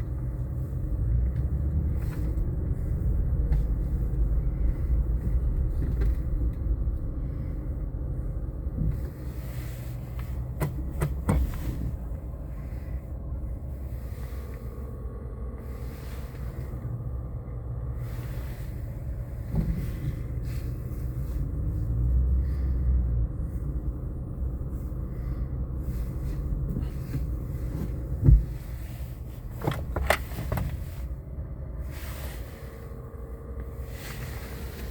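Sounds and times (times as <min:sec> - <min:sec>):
truck engine rumbling: 0:00.0 - 0:34.9.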